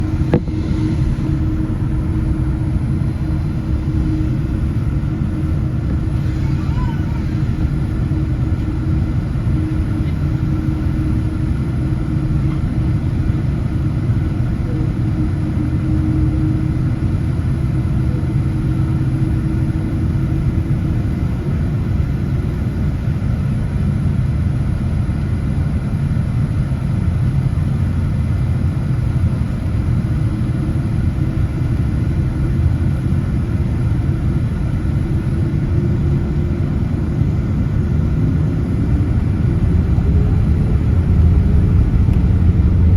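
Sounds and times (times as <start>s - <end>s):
airliner engine rumble: 0.0s - 42.9s.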